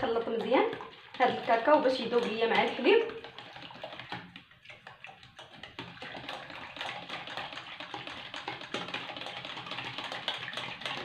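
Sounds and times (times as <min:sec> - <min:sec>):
whisk ticking against saucepan: 0:00.0 - 0:11.0.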